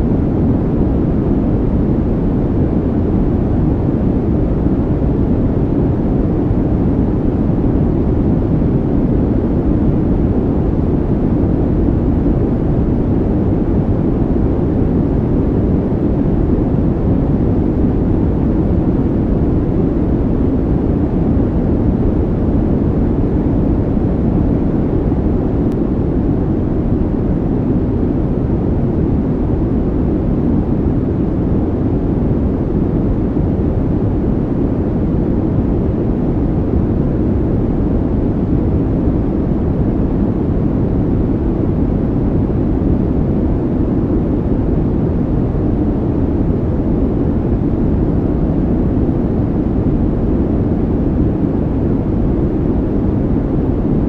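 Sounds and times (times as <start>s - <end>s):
low rumbling noise: 0.0s - 54.0s.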